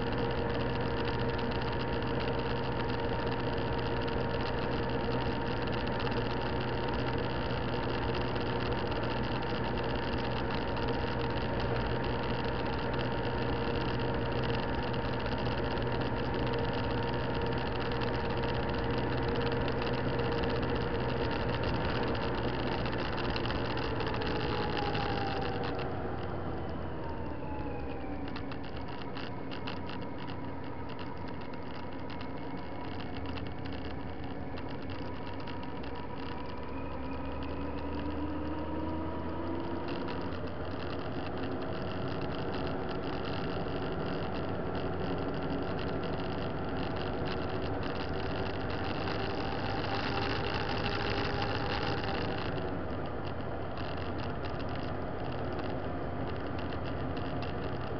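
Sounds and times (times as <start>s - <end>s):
motorcycle engine running: 0.0s - 57.9s
wind and road rush: 0.0s - 57.9s.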